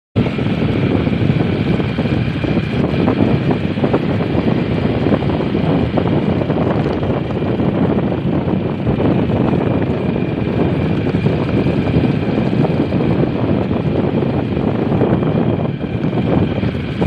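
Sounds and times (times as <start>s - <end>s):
motorcycle engine running: 0.2s - 17.0s
wind rumble on microphone: 0.2s - 17.0s.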